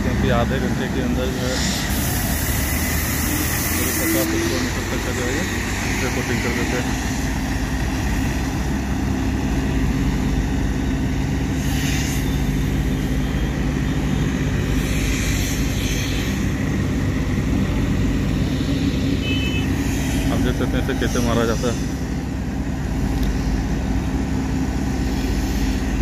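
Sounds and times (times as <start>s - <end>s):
diesel truck engine humming: 0.0s - 26.0s.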